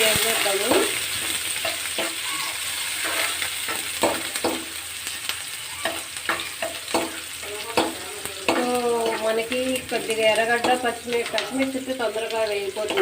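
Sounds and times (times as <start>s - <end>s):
onions sizzling in hot oil: 0.0s - 13.0s
spoon scraping a pan: 0.1s - 4.8s, 5.8s - 13.0s.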